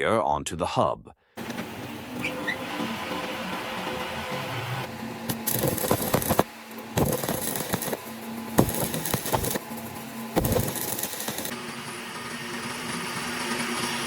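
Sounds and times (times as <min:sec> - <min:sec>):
steady machine hum: 0:01.4 - 0:14.0.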